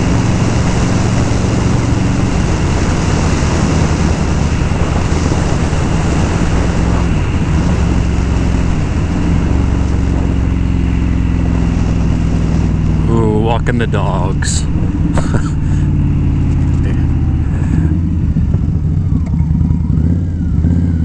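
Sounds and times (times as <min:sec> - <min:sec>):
motorcycle engine running: 0:00.0 - 0:21.0
wind rush over microphone: 0:00.0 - 0:21.0.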